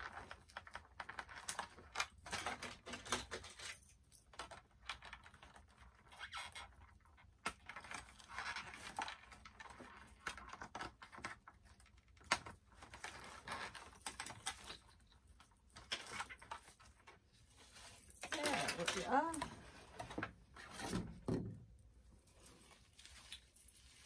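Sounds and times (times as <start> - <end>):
plastic packaging clicks and rustles: 0.0 - 24.0.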